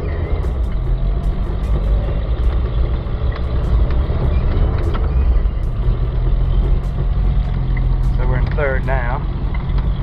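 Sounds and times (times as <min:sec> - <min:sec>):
pickup engine and road rumble: 0:00.0 - 0:10.0.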